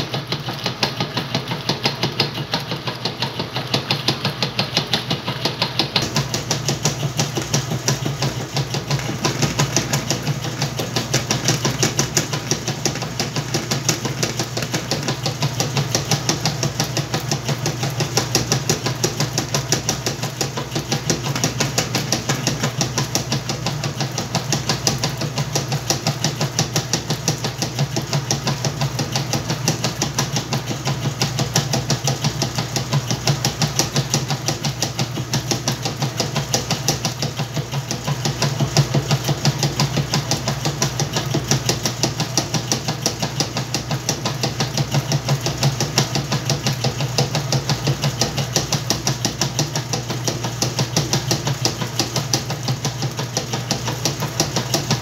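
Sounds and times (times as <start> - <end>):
washing machine churning: 0.0 - 55.0
washing machine motor hum: 0.0 - 55.0.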